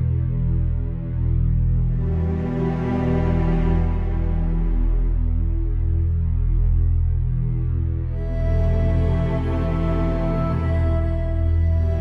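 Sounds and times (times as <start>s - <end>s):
slow music of held chords: 0.0s - 12.0s.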